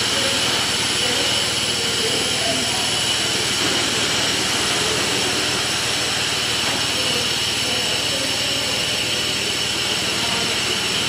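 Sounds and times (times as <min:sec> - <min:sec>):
high-pitched machine whines: 0:00.0 - 0:11.0
machine running: 0:00.0 - 0:11.0.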